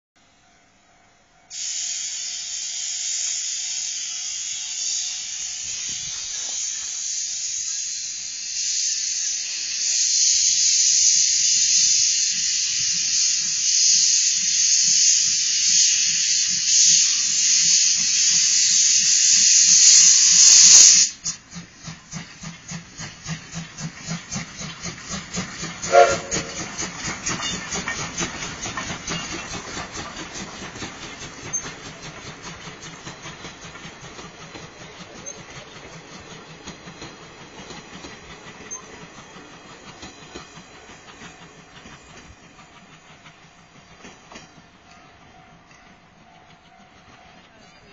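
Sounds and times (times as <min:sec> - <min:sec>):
steam locomotive exhaust chuffs: 0:00.3 - 0:47.9
locomotive steam hiss: 0:01.1 - 0:47.9.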